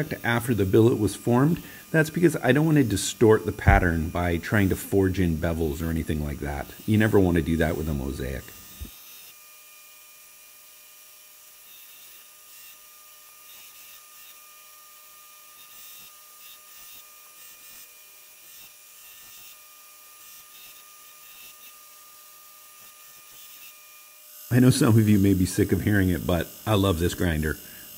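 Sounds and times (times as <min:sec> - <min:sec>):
belt grinder whining: 0:00.0 - 0:27.9.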